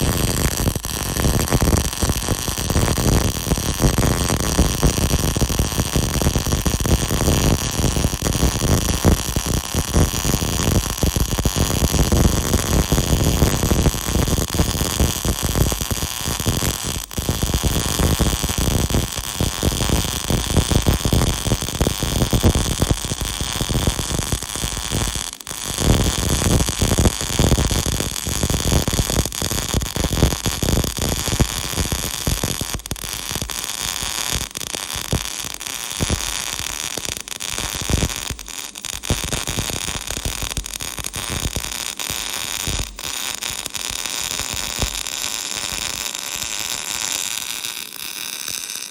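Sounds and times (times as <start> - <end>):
welding arc crackling: 0.0 - 48.9.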